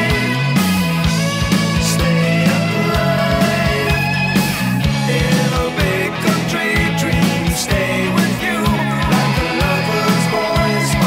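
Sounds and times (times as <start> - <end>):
rock music with drum beat: 0.0 - 11.0.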